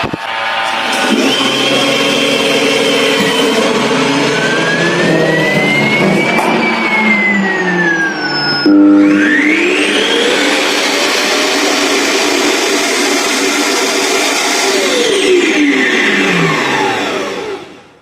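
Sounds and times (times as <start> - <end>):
vacuum dock suction fan rushing: 0.0 - 17.9.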